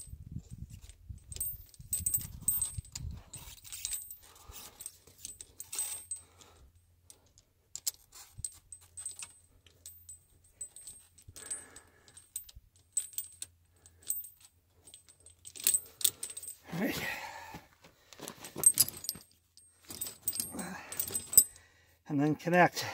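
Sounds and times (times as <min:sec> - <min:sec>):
tire chains clinking: 0:00.8 - 0:17.6, 0:18.2 - 0:21.7.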